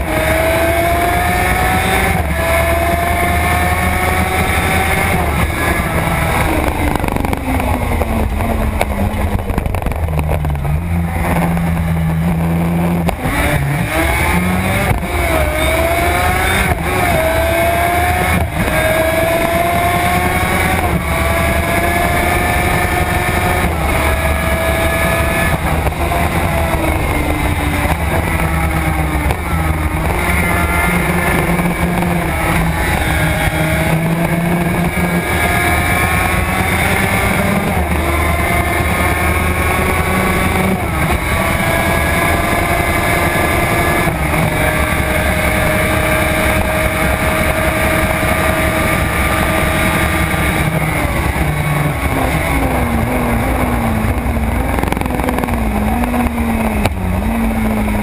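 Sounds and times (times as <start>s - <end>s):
motorcycle engine at racing speed: 0.0s - 58.0s
wind noise on microphone: 0.0s - 58.0s.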